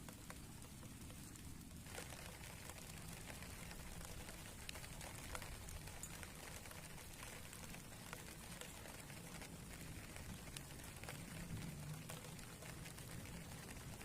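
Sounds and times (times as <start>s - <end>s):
rain falling: 0.0s - 14.0s
raindrops ticking: 0.0s - 14.0s.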